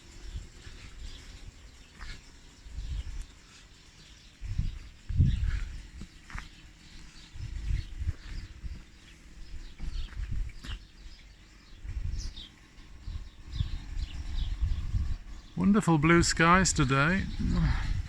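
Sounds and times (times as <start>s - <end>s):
small birds chirping: 0.0s - 18.0s
wind buffeting microphone: 0.0s - 18.0s.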